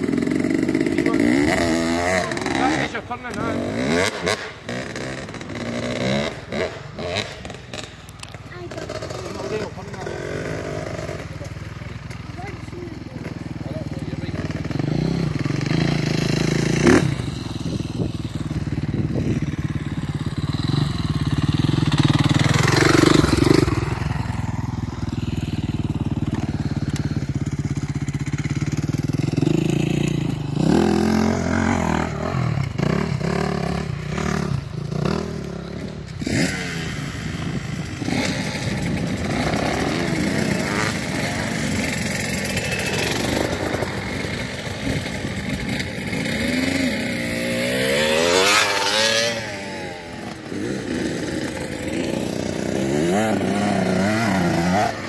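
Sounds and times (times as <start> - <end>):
dirt bike engines revving: 0.0 - 55.0
dirt bike idling: 0.0 - 55.0.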